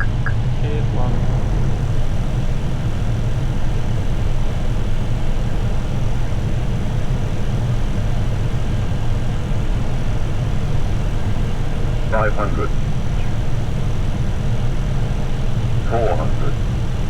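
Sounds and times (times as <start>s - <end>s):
low cockpit rumble: 0.0s - 17.0s.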